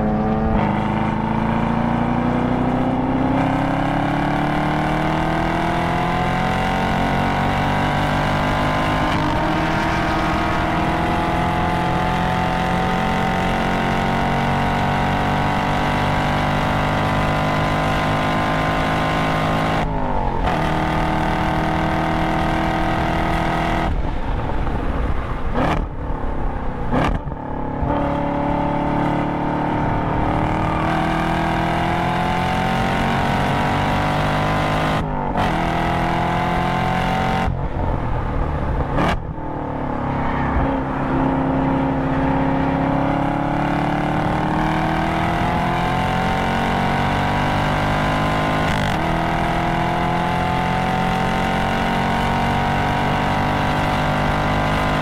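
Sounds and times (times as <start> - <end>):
car engine revving and shifting: 0.0 - 26.0, 26.8 - 55.0.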